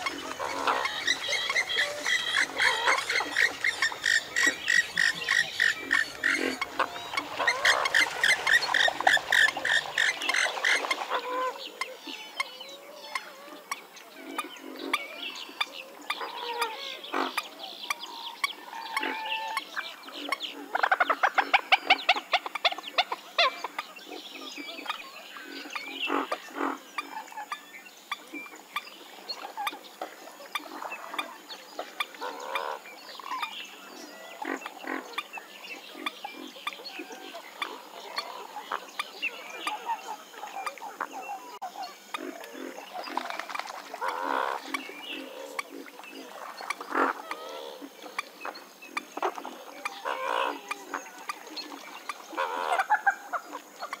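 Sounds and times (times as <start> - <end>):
swamphen calling: 0.0 - 54.0.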